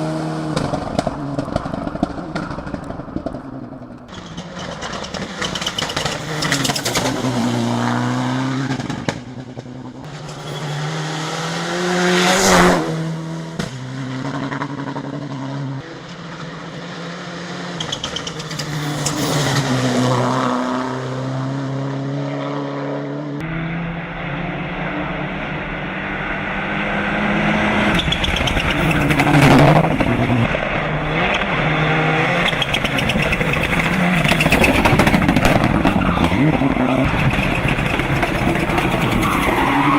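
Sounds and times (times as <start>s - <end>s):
rally car engine revving past: 4.6s - 39.9s.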